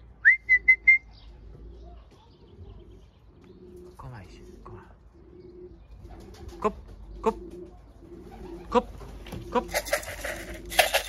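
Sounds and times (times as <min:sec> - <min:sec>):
pigeons cooing: 0:00.4 - 0:11.0.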